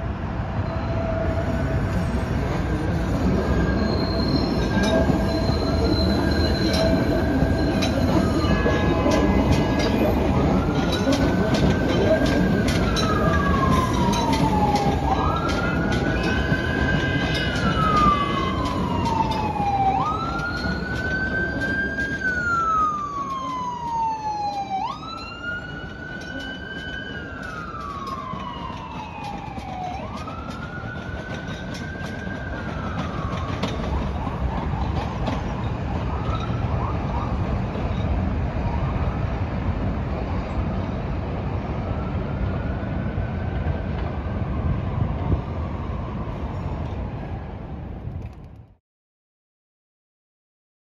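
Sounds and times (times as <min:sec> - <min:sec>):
emergency siren wailing: 0:00.0 - 0:47.9
trains rumbling: 0:00.0 - 0:48.6
higher siren: 0:03.2 - 0:39.6, 0:41.4 - 0:47.8.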